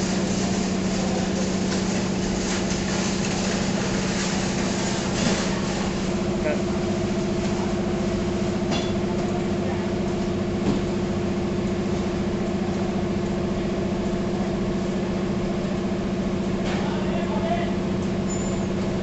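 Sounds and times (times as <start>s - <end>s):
labeling machine humming: 0.0s - 19.0s.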